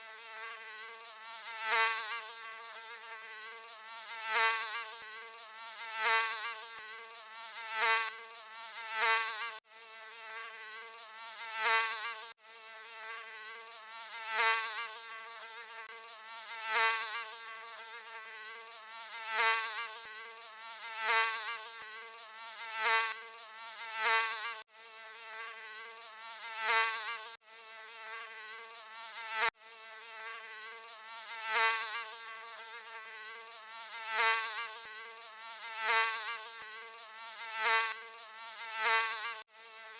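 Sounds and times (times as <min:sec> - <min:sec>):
mosquito buzzing: 0:00.0 - 0:39.9.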